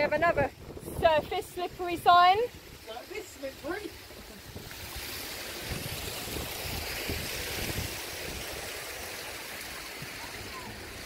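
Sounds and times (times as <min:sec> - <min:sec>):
wind buffeting microphone: 0:00.0 - 0:11.0
waterfall rushing: 0:00.9 - 0:11.0.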